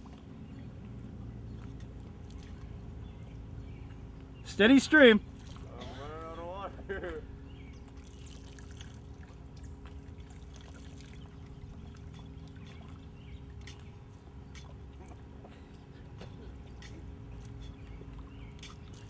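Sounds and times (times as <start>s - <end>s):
steady low rumble: 0.0s - 19.0s
water trickling into lake: 0.0s - 19.0s.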